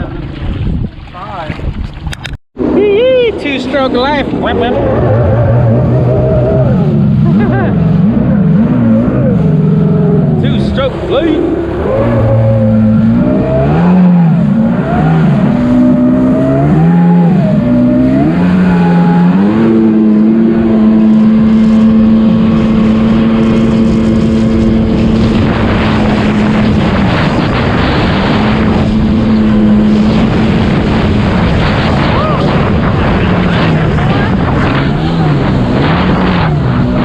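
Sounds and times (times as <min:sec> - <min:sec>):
wind and water rushing: 0:00.0 - 0:37.0
jet ski engine revving: 0:02.6 - 0:37.0.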